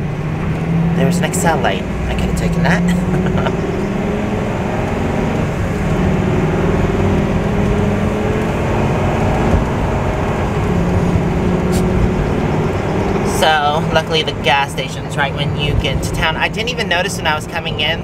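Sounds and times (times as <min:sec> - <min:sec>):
engine drone: 0:00.0 - 0:18.0
road noise: 0:00.0 - 0:18.0.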